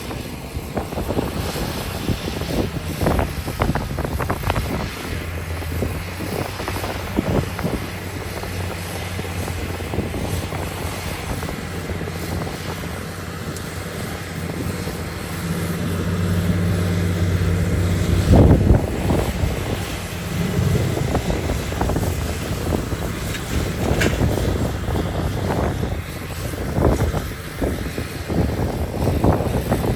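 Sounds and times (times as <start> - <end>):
heavy diesel engine running: 0.0 - 29.9
rough clattering rumble: 0.0 - 29.9.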